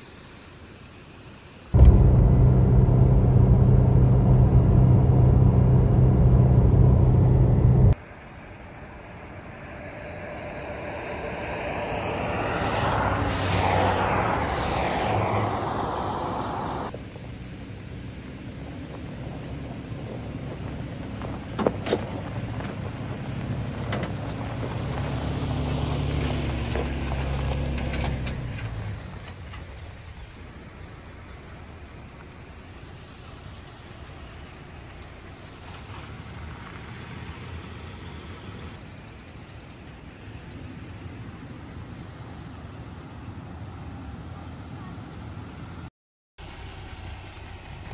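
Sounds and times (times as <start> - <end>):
vehicle engine and road noise: 0.0 - 47.9.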